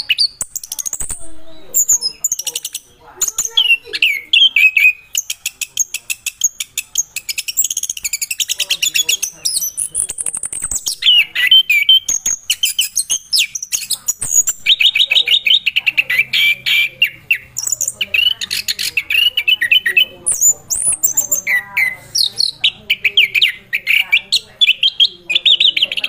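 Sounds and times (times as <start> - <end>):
thrush singing trills and whistles: 0.0 - 26.0.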